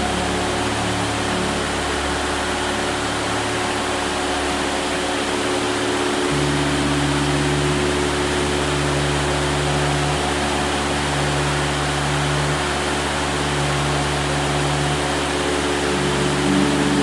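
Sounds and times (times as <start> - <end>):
heavy rain on a metal roof: 0.0 - 17.0
low hum: 0.0 - 17.0.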